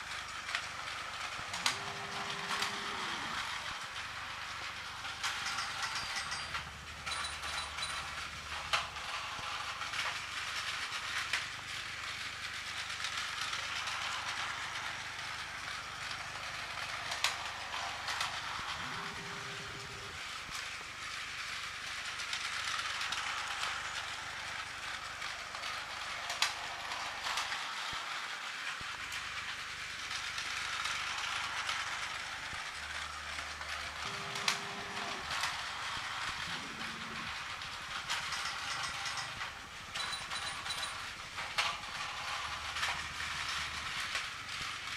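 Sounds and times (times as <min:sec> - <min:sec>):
toy trains whirring and rattling: 0:00.0 - 0:44.9.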